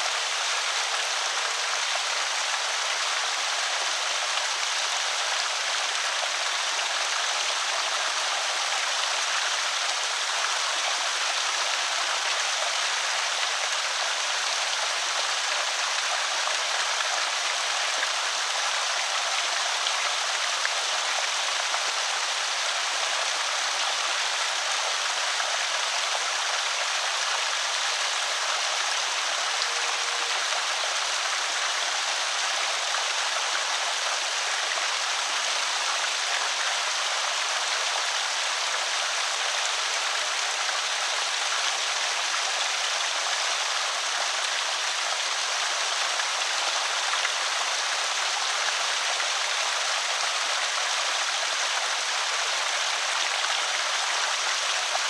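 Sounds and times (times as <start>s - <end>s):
water rushing over spillway: 0.0s - 55.0s.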